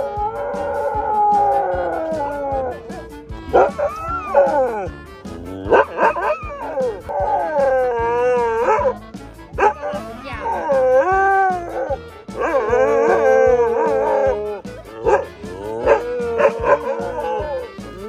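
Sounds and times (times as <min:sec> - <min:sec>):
dog howling: 0:00.0 - 0:09.0, 0:09.6 - 0:18.0
background music: 0:00.0 - 0:18.0.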